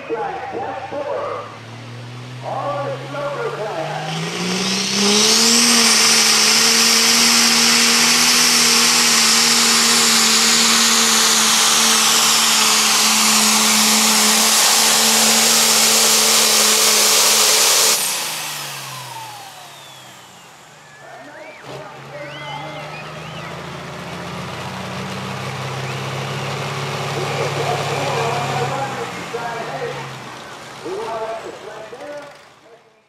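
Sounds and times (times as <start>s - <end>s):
high turbo whine: 0.0s - 32.5s
tractor diesel engine at full throttle: 0.0s - 32.7s.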